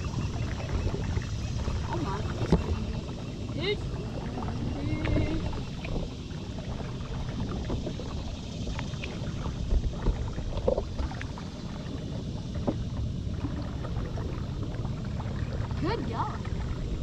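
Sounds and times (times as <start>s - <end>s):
boat low rumble: 0.0s - 17.0s.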